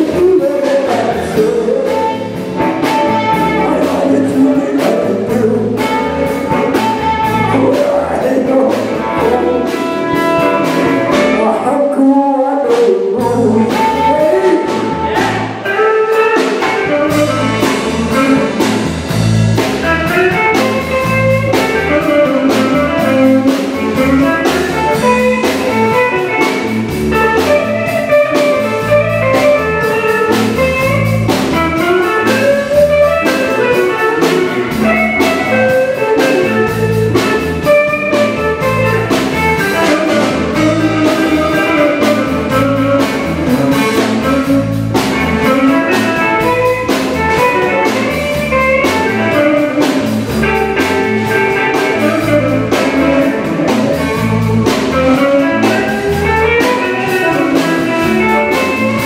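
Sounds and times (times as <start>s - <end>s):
drum kit steady beat: 0.0s - 11.7s, 12.7s - 59.0s
electric bass: 0.0s - 59.0s
electric guitar lines: 0.0s - 59.0s.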